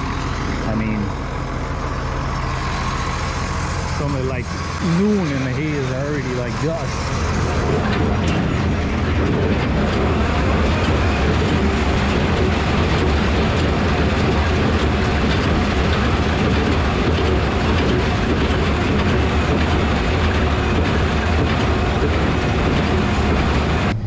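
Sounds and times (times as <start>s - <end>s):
hay baler rattling: 0.0s - 23.9s
tractor engine drone: 0.0s - 24.0s.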